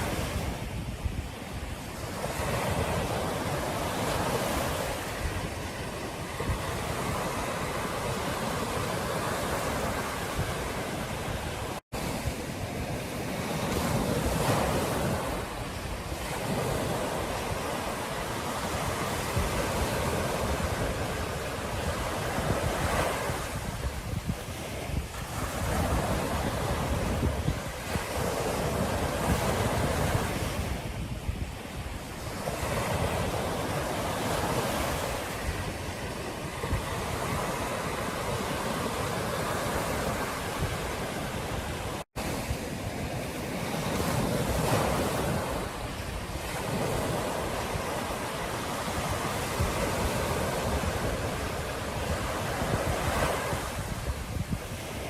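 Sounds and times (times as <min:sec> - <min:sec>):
ocean surf breaking on beach: 0:00.0 - 0:55.0
wind buffeting microphone: 0:00.0 - 0:55.0.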